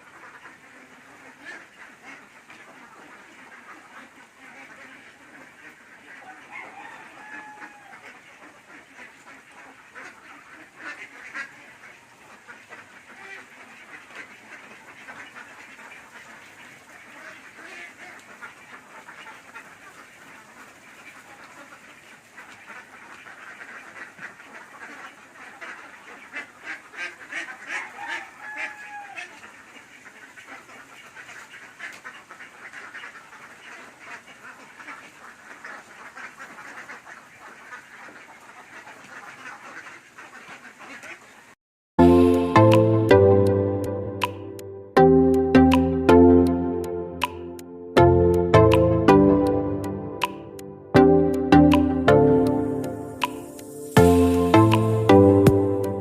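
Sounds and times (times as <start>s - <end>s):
ducks quacking: 0.0s - 56.0s.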